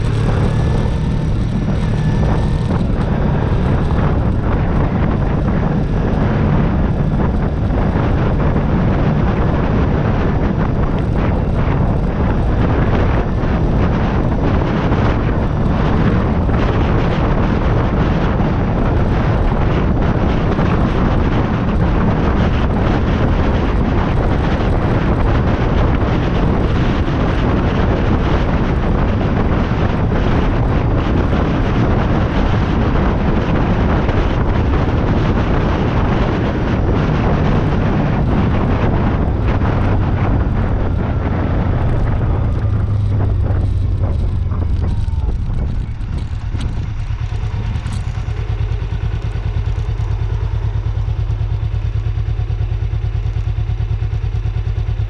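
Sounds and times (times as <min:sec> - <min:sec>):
motorcycle engine low rumble: 0:00.0 - 0:55.0
wind rushing over microphone: 0:00.0 - 0:55.0.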